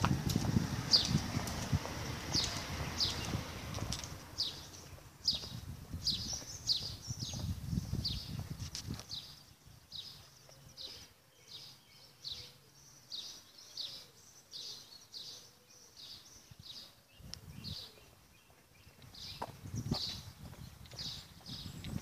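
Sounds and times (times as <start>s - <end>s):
small bird chirping: 2.3s - 22.0s.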